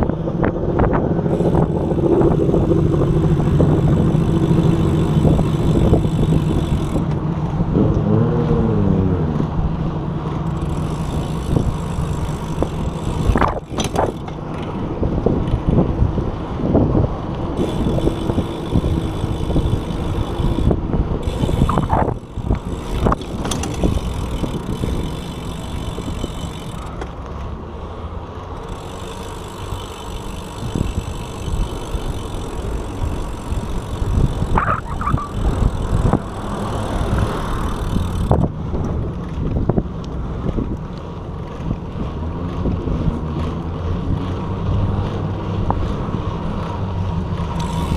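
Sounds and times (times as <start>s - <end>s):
wind rushing over microphone: 0.0s - 26.5s, 30.2s - 47.9s
road rumble: 0.0s - 47.9s.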